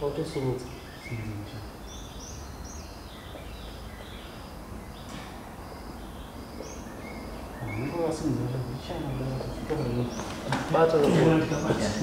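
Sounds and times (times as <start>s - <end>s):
low background hum: 0.0s - 12.0s
small birds chirping: 0.0s - 12.0s.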